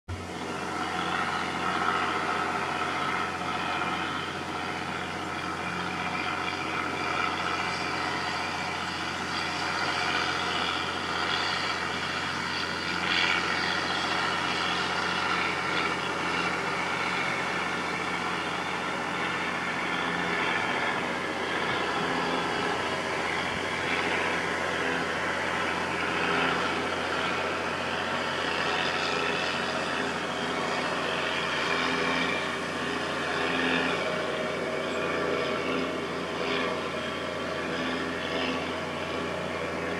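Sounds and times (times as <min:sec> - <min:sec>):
road traffic rumble: 0:00.1 - 0:39.9.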